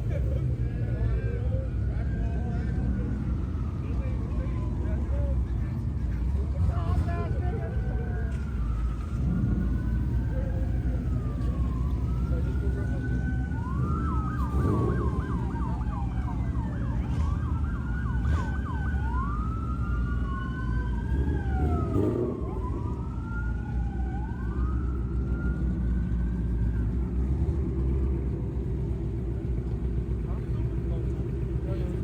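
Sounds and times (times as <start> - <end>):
car engines rumbling: 0.0 - 32.0
emergency vehicle sirens wailing: 0.0 - 32.0.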